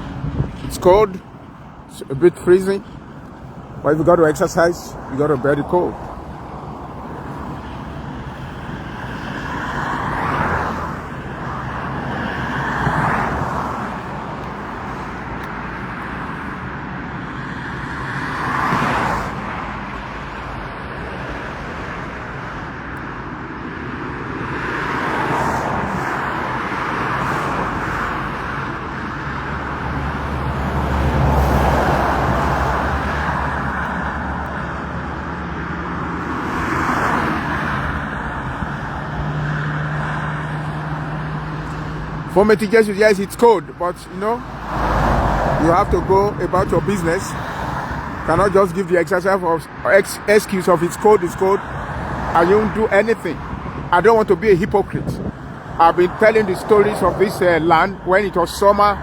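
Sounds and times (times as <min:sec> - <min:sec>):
cars passing: 0:00.0 - 0:59.0
hum of tyres: 0:00.0 - 0:59.0.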